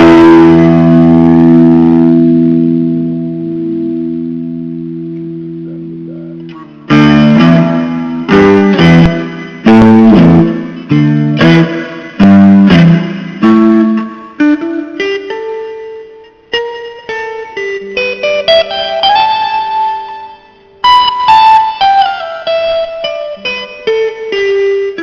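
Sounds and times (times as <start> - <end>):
guitar chords strummed: 0.0 - 25.0.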